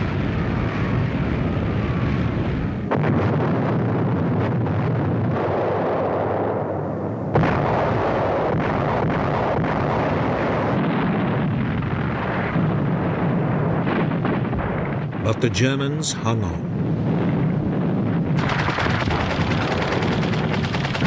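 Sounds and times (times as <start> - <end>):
bombs exploding: 0.0 - 21.0.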